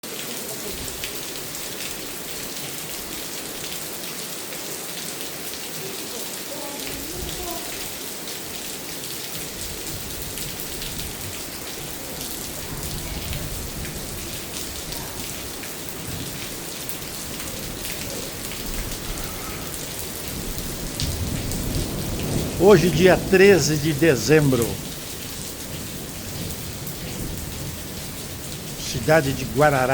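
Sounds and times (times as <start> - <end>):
steady rain hiss: 0.1 - 29.9.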